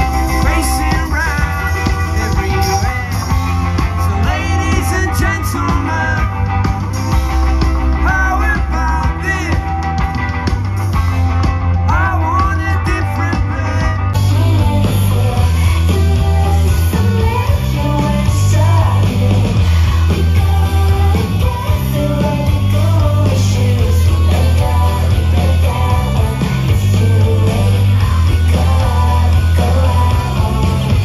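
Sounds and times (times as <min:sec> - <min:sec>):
person singing: 0:00.0 - 0:06.7, 0:07.9 - 0:09.9, 0:11.9 - 0:31.0
electric guitars: 0:00.0 - 0:31.0
heavy bass line: 0:00.0 - 0:31.0.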